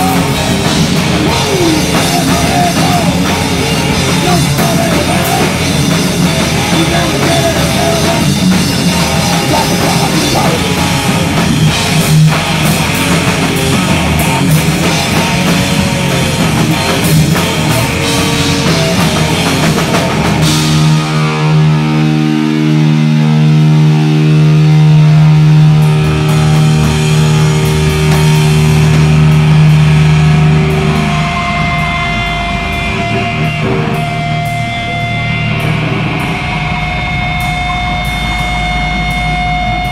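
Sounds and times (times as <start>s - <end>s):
live hard rock band: 0.0s - 39.9s
steady high tone: 0.0s - 39.9s
sustained guitar notes ringing: 0.0s - 39.9s.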